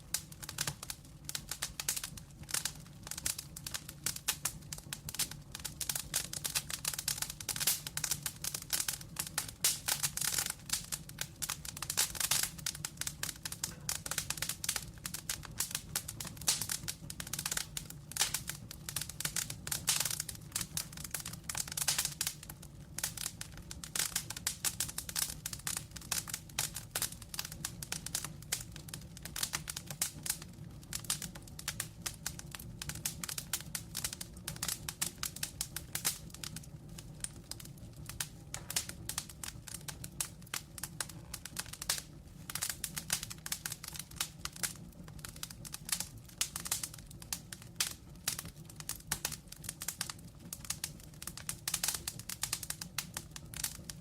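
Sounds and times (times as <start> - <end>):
logs crackling and popping: 0.0 - 54.0
low fire undertone: 0.0 - 54.0.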